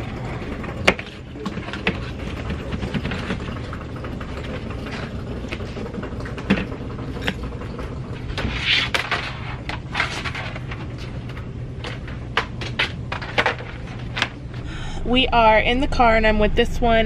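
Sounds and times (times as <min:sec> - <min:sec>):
low background hum: 0:00.0 - 0:17.0
plastic totes knocking and scraping: 0:00.5 - 0:14.6.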